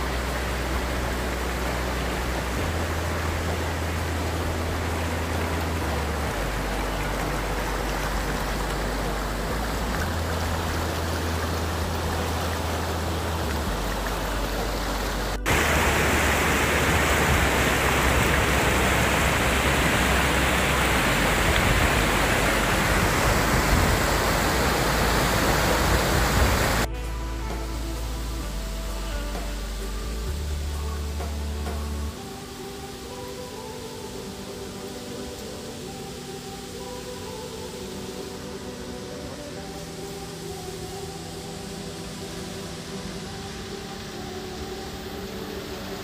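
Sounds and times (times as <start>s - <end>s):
river rushing over boulders: 0.0s - 46.0s.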